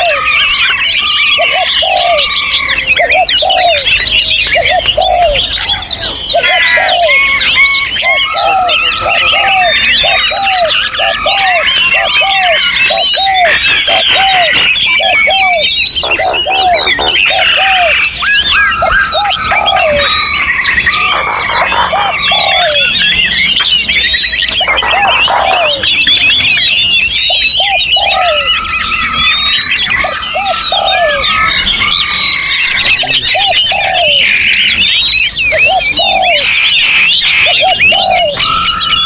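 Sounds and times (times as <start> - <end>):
chorus of songbirds singing: 0.0 - 39.0.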